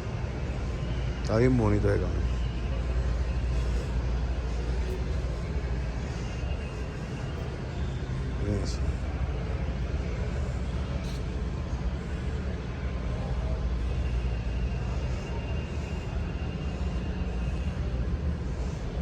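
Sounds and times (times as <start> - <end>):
low rumble of vehicles: 0.0 - 19.0
thin high whine: 0.0 - 19.0.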